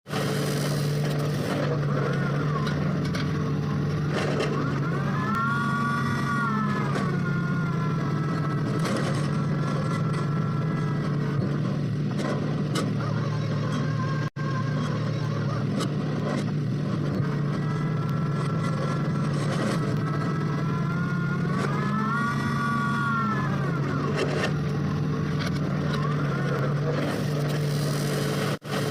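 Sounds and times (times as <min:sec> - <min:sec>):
drilling machine engine running: 0:00.0 - 0:28.9.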